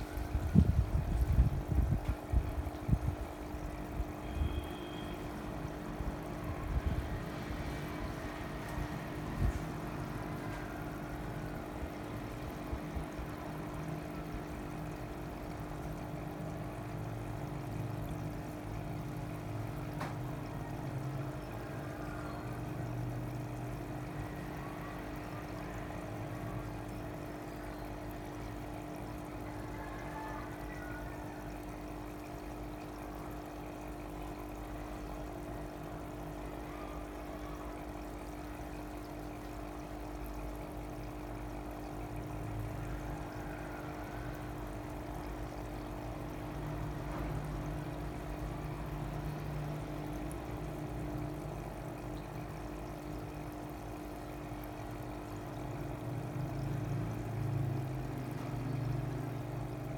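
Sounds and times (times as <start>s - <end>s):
water pouring and trickling: 0.0s - 59.9s
water pumps humming: 0.0s - 59.9s.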